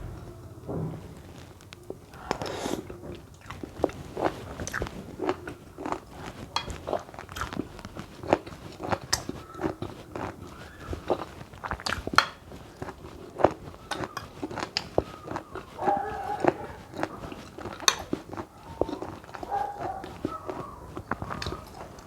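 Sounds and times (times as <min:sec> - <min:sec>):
chewing and mouth sounds: 0:02.1 - 0:22.0.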